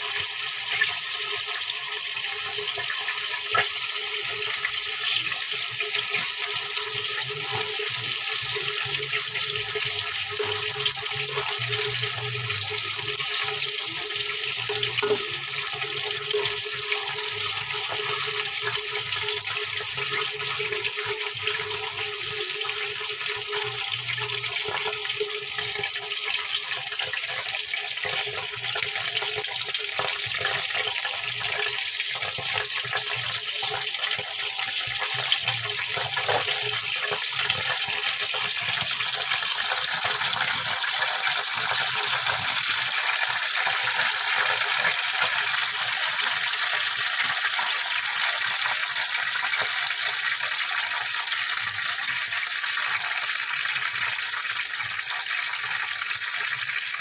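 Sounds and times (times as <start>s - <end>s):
bacon sizzling in a frying pan: 0.0s - 57.0s.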